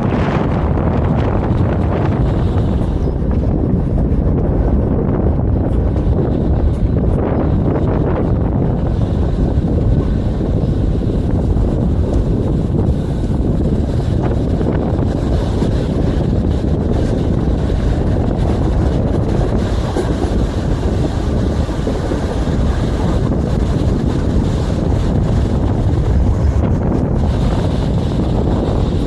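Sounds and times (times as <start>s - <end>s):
tram wheels rumbling on rails: 0.0s - 29.0s
wind buffeting microphone: 0.0s - 29.0s.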